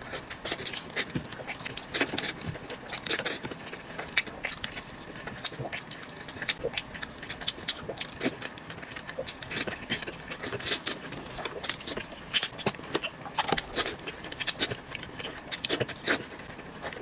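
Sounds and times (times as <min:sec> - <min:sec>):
person eating crunchy food: 0:00.0 - 0:17.0.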